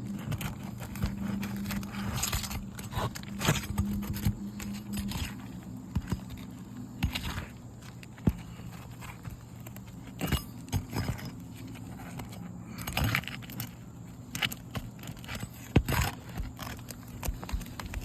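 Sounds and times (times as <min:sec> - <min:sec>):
low hum: 0:00.0 - 0:18.0
scraping and crackling of shingle: 0:00.0 - 0:18.0.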